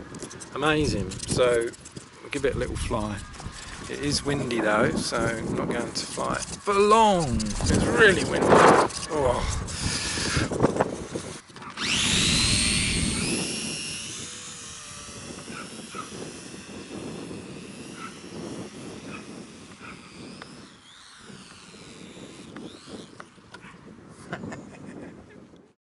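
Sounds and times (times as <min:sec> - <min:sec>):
model plane motor whining: 0:00.0 - 0:24.7
wind rumbling on microphone: 0:00.0 - 0:25.8.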